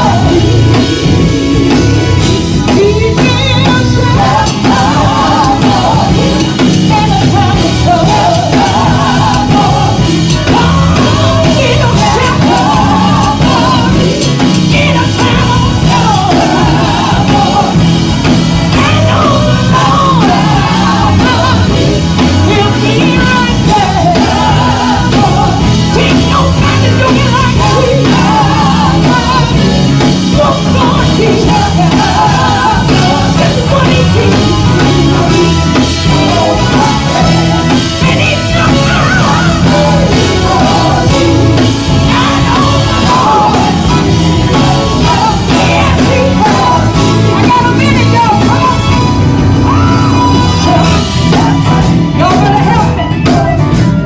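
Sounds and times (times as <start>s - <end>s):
women's vocal group singing: 0.0s - 53.8s
drum kit: 0.0s - 54.0s
electric guitar: 0.0s - 54.0s.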